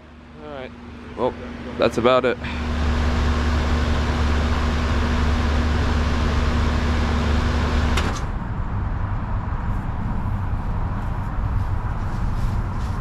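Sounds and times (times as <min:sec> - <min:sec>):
condenser fan whooshing: 0:00.0 - 0:13.0
heat pump compressor humming: 0:00.0 - 0:13.0.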